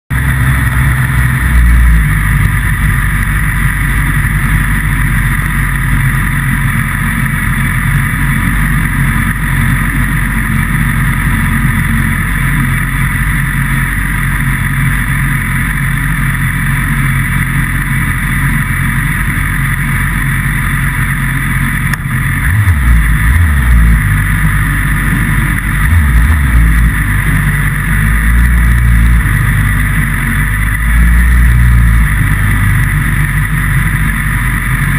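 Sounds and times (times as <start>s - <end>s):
motorcycle engine idling: 0.1s - 34.9s
motorcycle throttle blips: 0.1s - 34.9s.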